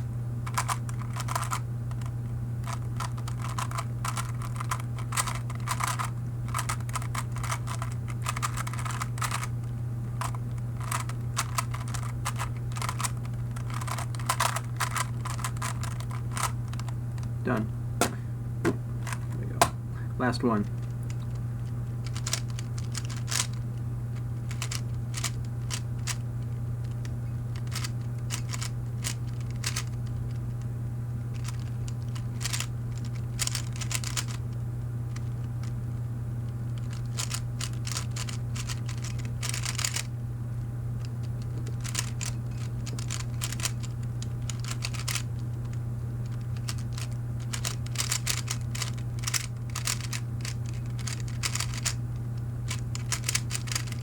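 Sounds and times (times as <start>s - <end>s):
steady low hum: 0.0s - 54.0s
puzzle cube plastic clicks: 0.4s - 9.5s, 10.2s - 17.3s, 22.0s - 23.6s, 24.4s - 30.4s, 31.3s - 34.5s, 36.7s - 40.1s, 41.0s - 54.0s.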